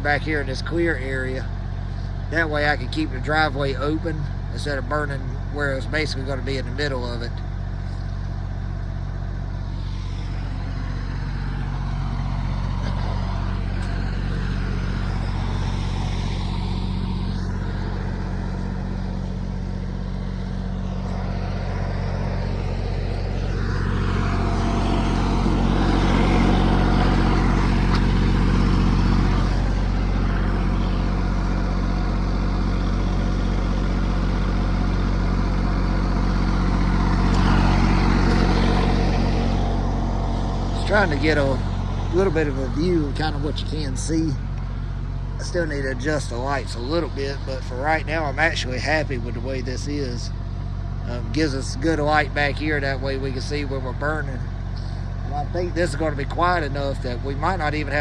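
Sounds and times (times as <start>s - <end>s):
diesel generator engine droning: 0.0s - 58.0s.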